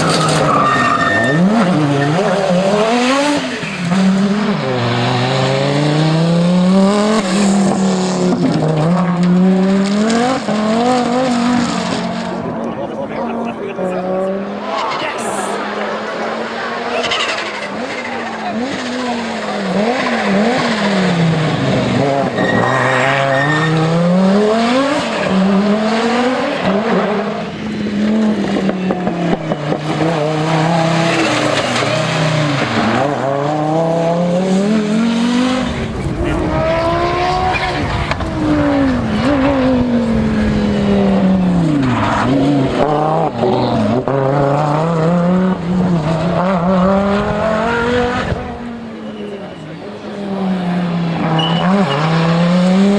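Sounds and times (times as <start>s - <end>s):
rally car engine revving hard: 0.0s - 52.9s.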